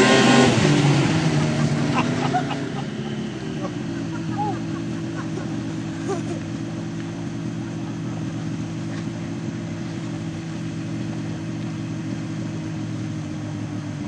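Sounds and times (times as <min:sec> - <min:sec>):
snowmobile engine running: 0:00.0 - 0:14.0.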